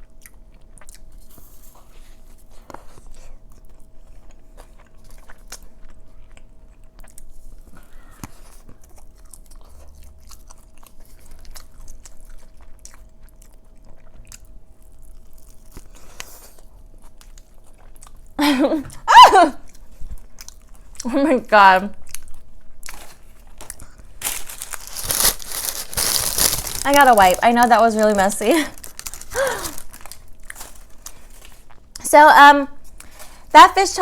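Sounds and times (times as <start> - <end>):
person chewing: 0.0 - 1.6, 2.4 - 18.4, 19.6 - 21.1, 22.0 - 32.1.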